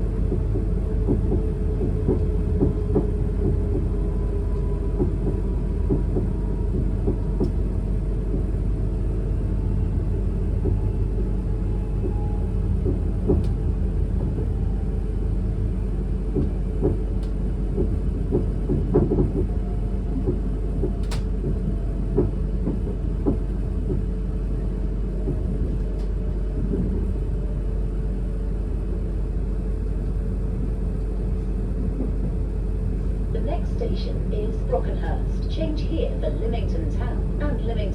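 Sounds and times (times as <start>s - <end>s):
track knocks and clatter: 0.0s - 9.2s, 10.4s - 11.3s, 11.9s - 14.6s, 16.1s - 27.4s, 30.0s - 37.9s
train running rumble: 0.0s - 37.9s.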